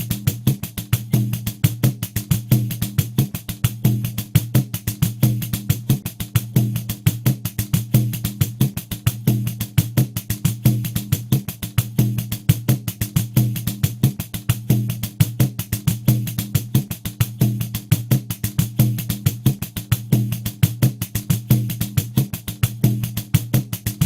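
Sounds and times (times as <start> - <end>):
pandeiro playing a groove: 0.0 - 24.0.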